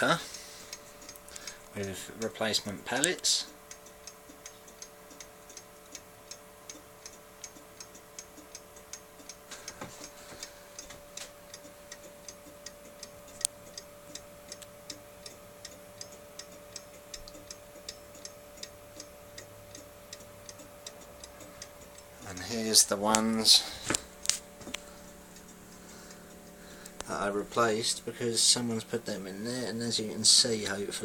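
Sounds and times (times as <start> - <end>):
clock ticking: 0.0 - 31.0.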